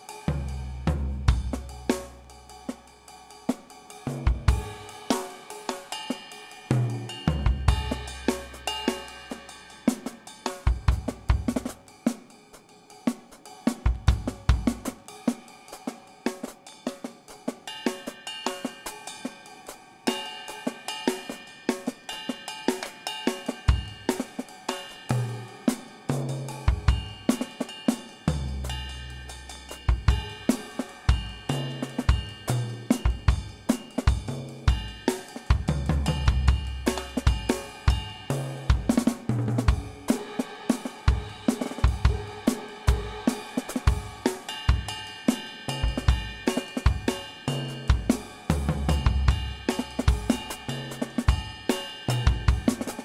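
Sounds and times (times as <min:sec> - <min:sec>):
drum kit music: 0:00.0 - 0:53.0.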